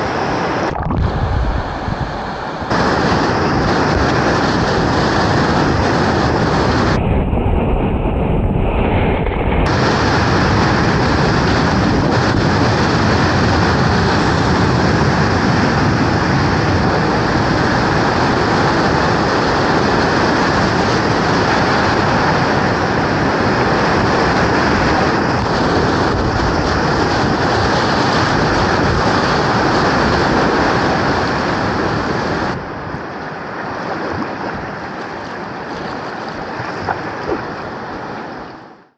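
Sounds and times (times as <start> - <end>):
whitewater roaring: 0.0 - 7.0, 9.6 - 38.9.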